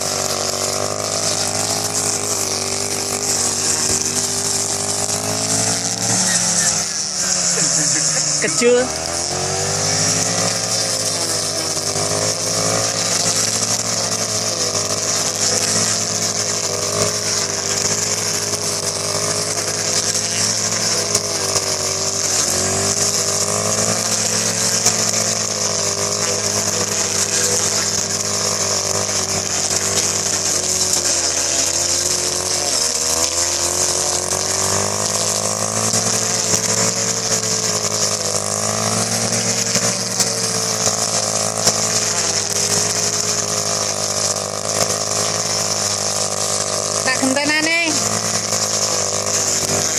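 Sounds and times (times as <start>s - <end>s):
high hiss: 0.0s - 49.9s
small engine running: 0.0s - 49.9s.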